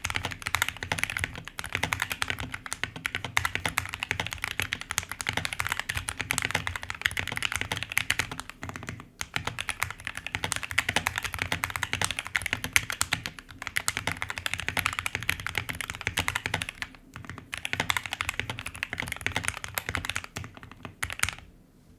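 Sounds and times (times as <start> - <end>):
mechanical keyboard typing: 0.0 - 21.5.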